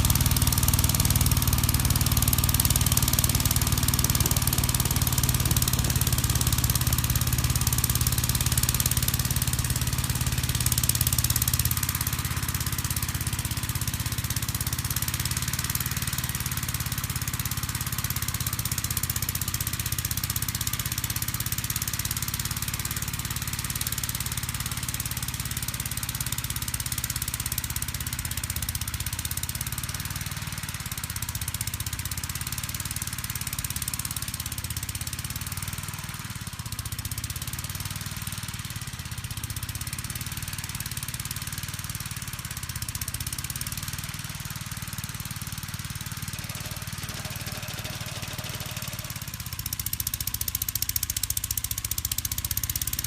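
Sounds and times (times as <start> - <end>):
snow blower engine running: 0.0 - 53.0.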